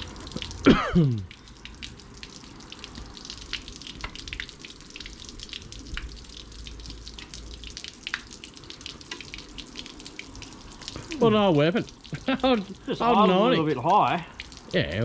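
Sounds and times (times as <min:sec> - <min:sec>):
water spattering and dripping: 0:00.0 - 0:15.0.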